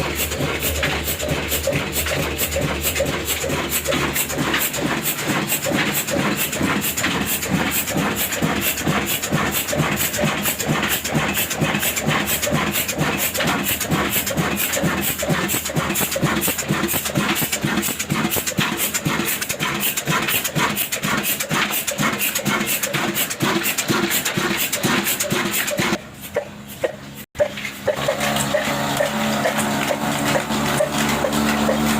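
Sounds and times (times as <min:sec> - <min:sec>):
diesel engine chugging: 0:00.0 - 0:31.9.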